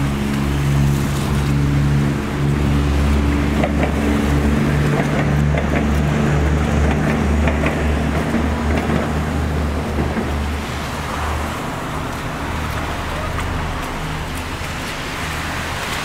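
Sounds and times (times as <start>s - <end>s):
passing traffic hum: 0.0s - 16.0s.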